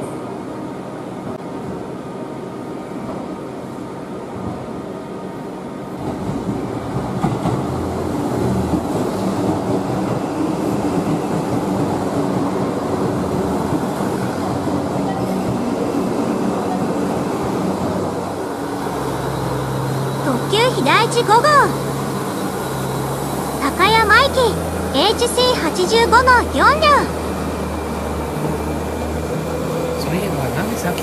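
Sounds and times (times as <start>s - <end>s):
diesel train rumbling past: 0.0s - 31.0s.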